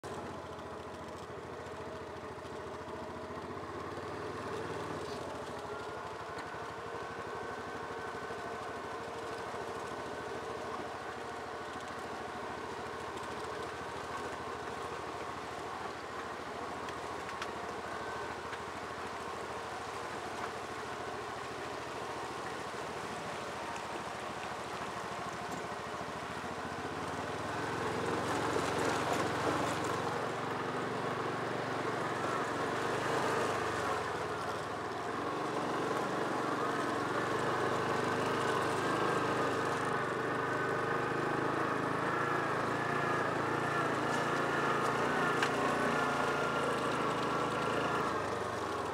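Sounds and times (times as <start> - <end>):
vehicle engine running at low speed: 0.0 - 48.9.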